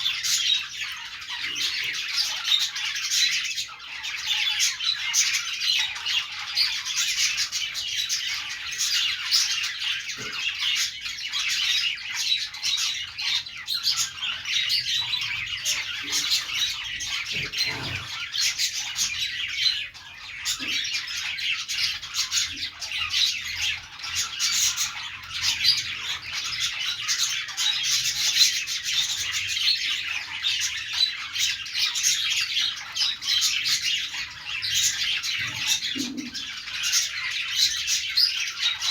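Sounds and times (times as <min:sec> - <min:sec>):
budgies chattering: 0:00.0 - 0:38.9.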